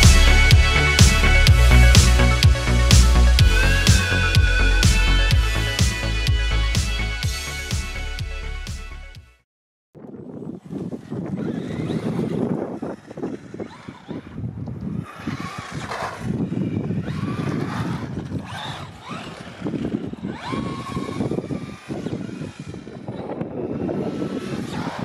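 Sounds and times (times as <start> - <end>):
electric motor whine: 0.0 - 9.1, 10.6 - 25.0.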